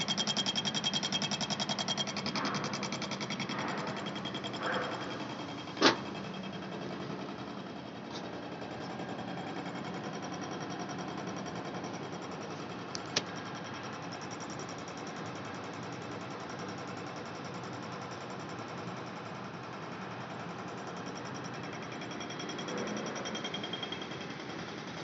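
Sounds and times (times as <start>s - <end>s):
milling machine chattering: 0.0s - 25.0s.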